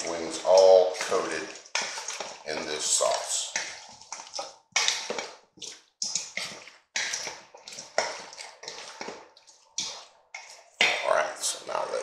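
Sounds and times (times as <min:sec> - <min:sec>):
hands tossing wet food in bowl: 0:00.0 - 0:12.0.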